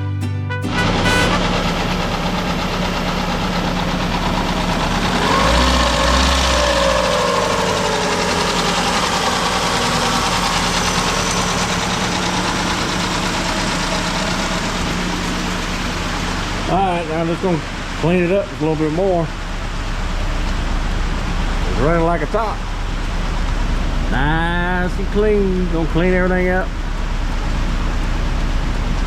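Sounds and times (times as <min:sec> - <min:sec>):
car engine idling: 0:00.7 - 0:29.0.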